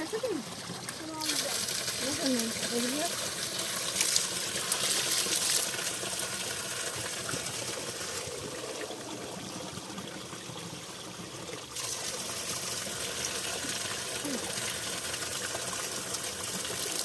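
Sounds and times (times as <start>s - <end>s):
spring water rushing: 0.0s - 17.0s.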